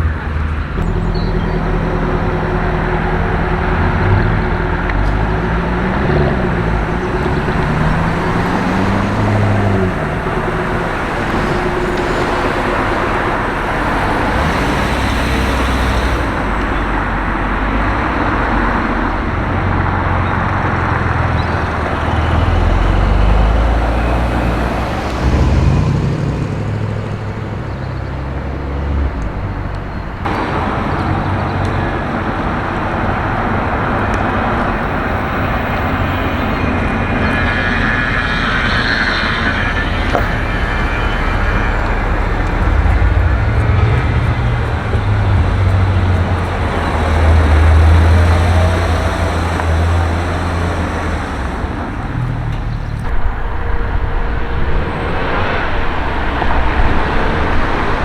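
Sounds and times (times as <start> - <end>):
car engines passing: 0.0 - 58.0
heavy low engine sound: 0.0 - 58.0.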